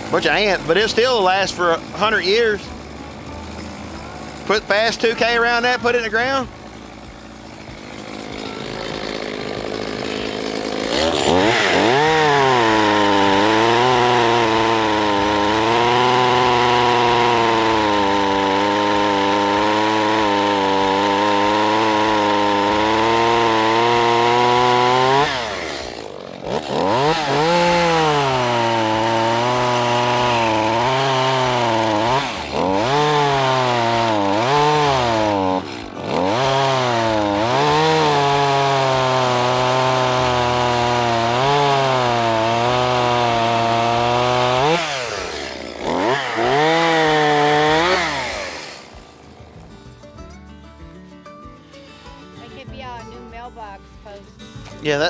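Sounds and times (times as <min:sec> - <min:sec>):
chainsaw cutting through log: 0:00.0 - 0:49.8.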